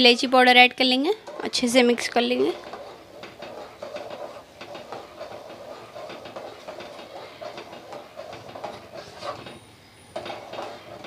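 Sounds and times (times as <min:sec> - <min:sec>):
metal spoon scraping a metal pot: 0:00.9 - 0:11.0.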